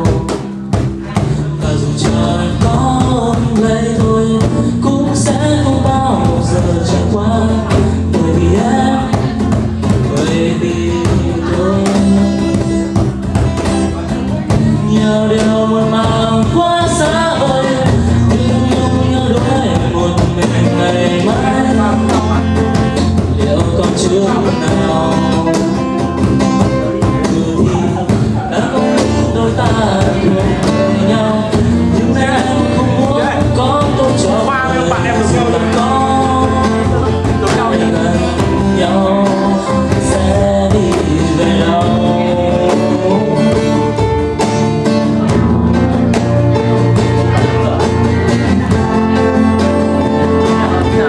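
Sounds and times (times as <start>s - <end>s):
acoustic guitars playing: 0.0s - 51.0s
man singing into a microphone: 0.0s - 51.0s.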